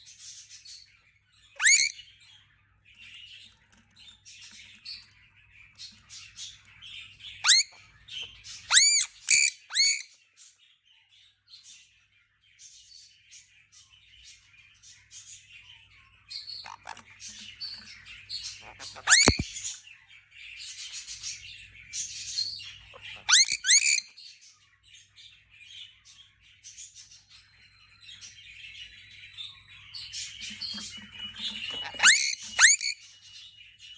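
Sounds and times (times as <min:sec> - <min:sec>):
soft bird chirps: 0:00.0 - 0:33.9.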